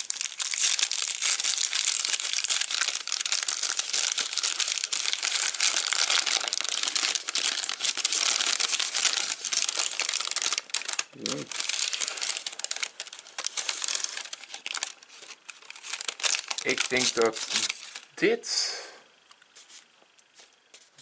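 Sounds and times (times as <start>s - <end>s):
paper bag crinkling: 0.0s - 18.1s.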